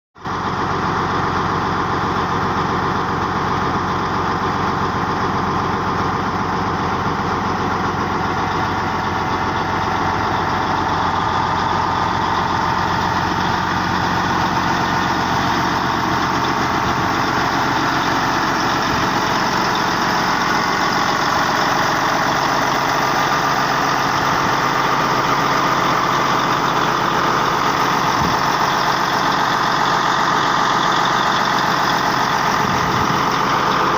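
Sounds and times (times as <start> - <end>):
bulldozer diesel engine running: 0.2 - 33.9.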